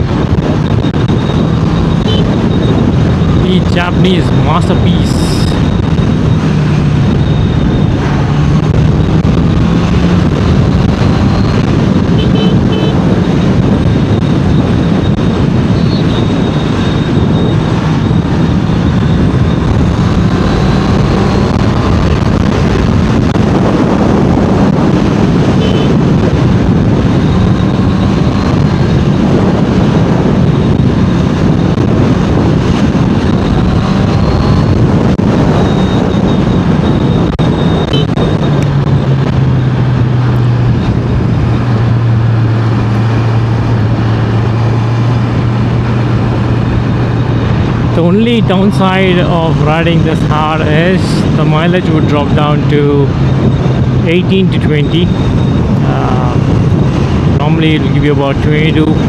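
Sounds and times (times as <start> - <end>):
motorcycle engine at speed: 0.0 - 59.0
wind rush on microphone: 0.0 - 59.0.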